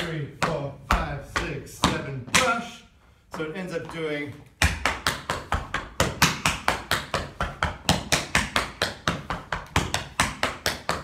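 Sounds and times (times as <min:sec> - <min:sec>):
tap shoes striking hard floor: 0:00.0 - 0:02.7, 0:03.8 - 0:11.0.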